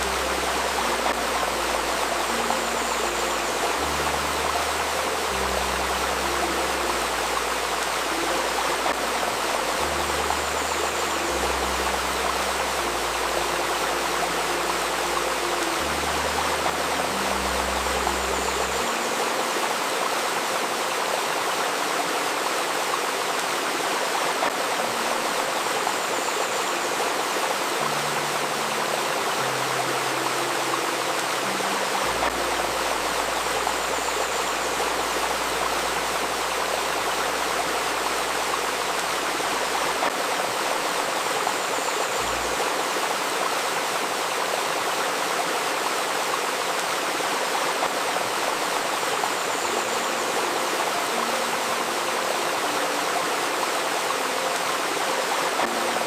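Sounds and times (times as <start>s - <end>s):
babbling river: 0.0s - 56.0s
faint steady tone: 0.0s - 56.0s.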